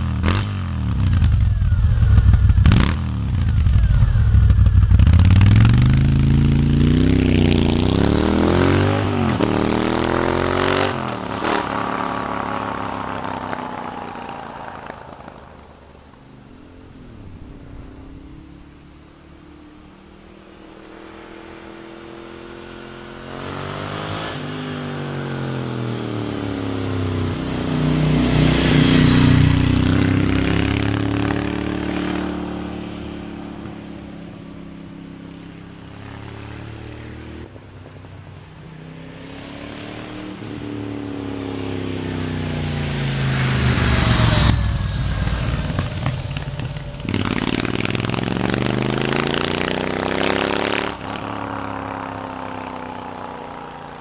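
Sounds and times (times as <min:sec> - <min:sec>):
motorcycle engine revving: 0:00.0 - 0:37.6, 0:38.6 - 0:54.0.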